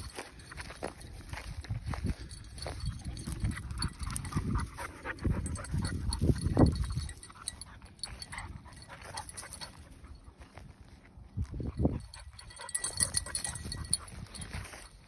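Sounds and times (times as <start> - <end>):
footsteps crunching through dry grass: 0.0 - 15.0.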